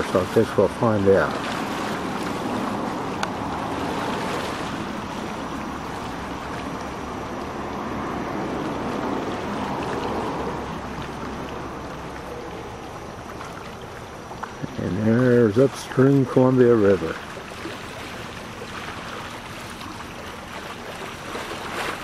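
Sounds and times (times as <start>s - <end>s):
small waves on rocky shore: 0.0s - 22.0s.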